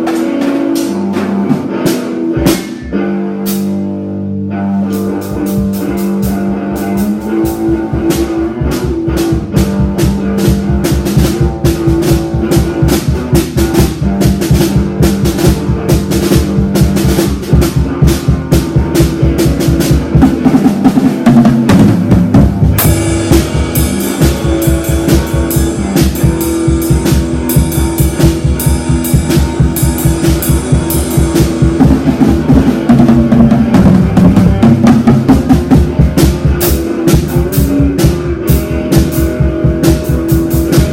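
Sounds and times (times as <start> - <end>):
drum kit fast beat: 0.0 - 3.8, 4.9 - 40.9
guitar: 0.0 - 40.9.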